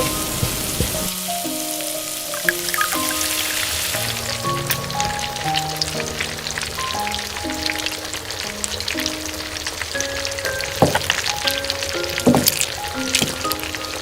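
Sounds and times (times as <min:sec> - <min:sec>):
background music: 0:00.0 - 0:14.0
food sizzling in a pan: 0:00.0 - 0:14.0.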